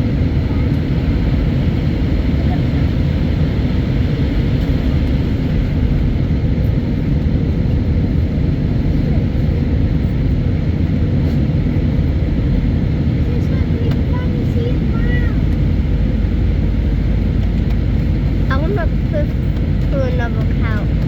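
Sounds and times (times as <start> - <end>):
jet engine noise in cabin: 0.0 - 21.0.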